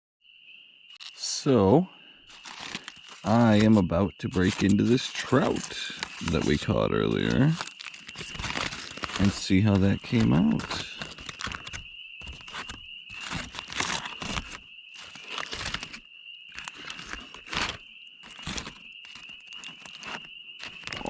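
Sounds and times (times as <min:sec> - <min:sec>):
wrapping crinkling and tearing: 0:01.0 - 0:01.2, 0:02.3 - 0:21.0.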